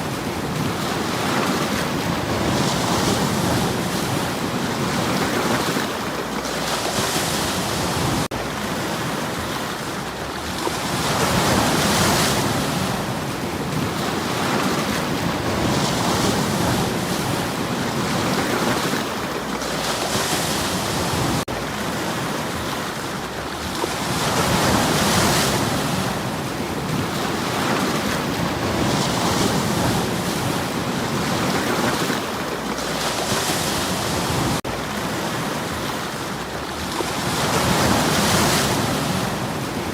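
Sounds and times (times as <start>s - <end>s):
waves breaking over stones: 0.0s - 39.9s.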